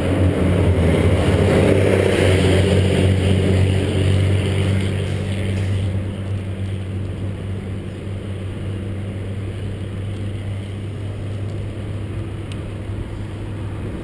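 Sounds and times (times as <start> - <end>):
traffic engine hum: 0.0 - 14.0
wind noise: 0.0 - 14.0.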